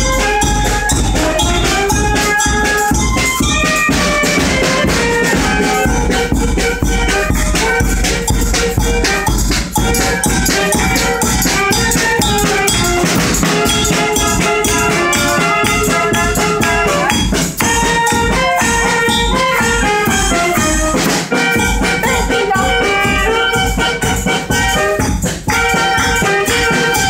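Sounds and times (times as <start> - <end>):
bass drum beating: 0.0 - 27.0
live band music: 0.0 - 27.0.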